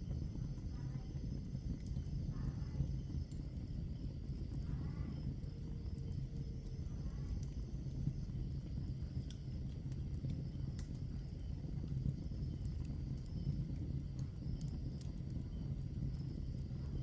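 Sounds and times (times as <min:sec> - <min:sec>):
burning wood crackling and popping: 0:00.0 - 0:17.0
rush of flames: 0:00.0 - 0:17.0.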